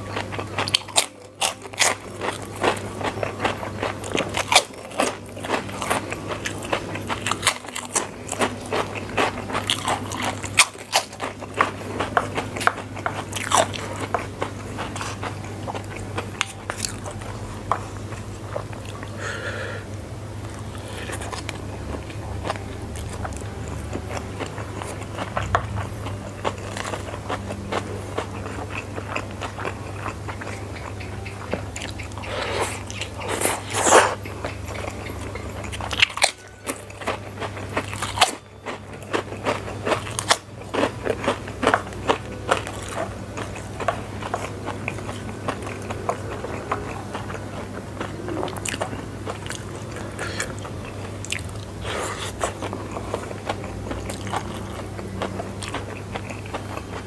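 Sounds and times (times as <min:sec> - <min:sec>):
wet crunchy chewing: 0:00.0 - 0:19.2, 0:20.4 - 0:57.0
low hum: 0:00.0 - 0:57.0.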